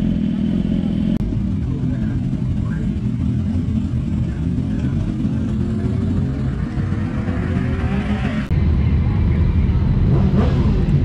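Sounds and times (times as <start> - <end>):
motorcycle engine rumble: 0.0 - 11.0
wind: 0.0 - 11.0.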